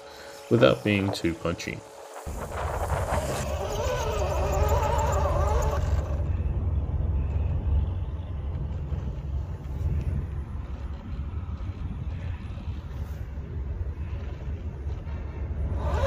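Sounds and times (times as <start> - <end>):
toy truck driving over grass: 0.0 - 13.2, 14.0 - 16.0
wind buffeting microphone: 0.6 - 16.0.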